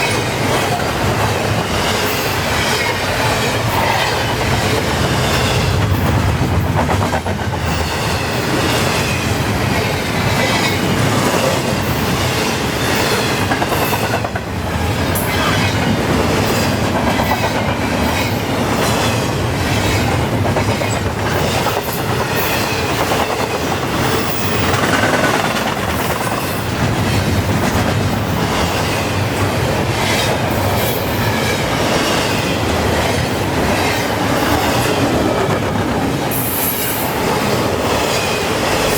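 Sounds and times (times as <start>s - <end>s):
clickety-clack over rail joints: 0.0s - 38.9s
steel wheels rumbling on rail: 0.0s - 38.9s.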